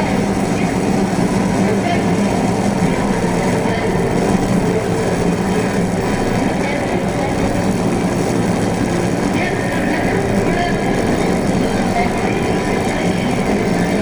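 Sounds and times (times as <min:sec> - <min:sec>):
low drone hum: 0:00.0 - 0:14.0
rumbling industrial noise music: 0:00.0 - 0:14.0.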